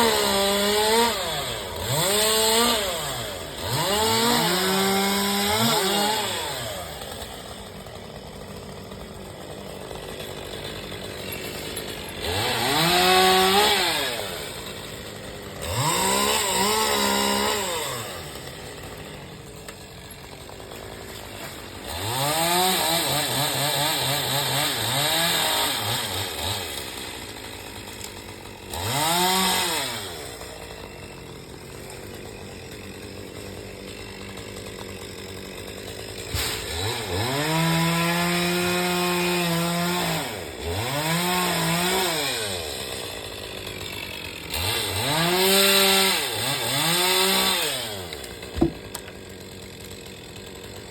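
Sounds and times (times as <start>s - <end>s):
chainsaw idling: 0.0s - 50.9s
chainsaw revving: 0.0s - 50.9s.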